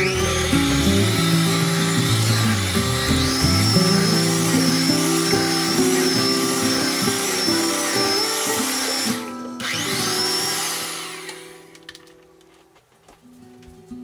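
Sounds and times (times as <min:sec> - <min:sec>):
electric hand mixer whining: 0:00.0 - 0:12.0
background music: 0:00.0 - 0:12.5.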